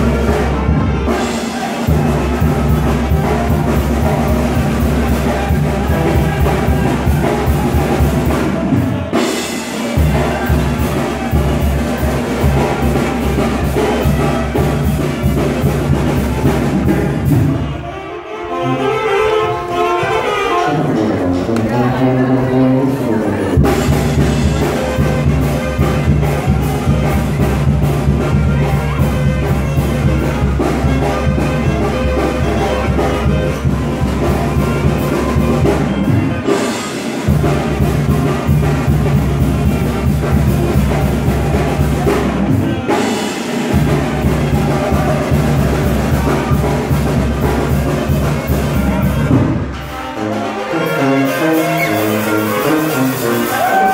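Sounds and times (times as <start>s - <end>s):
loud dance music with brass: 0.0s - 17.9s, 18.5s - 53.9s.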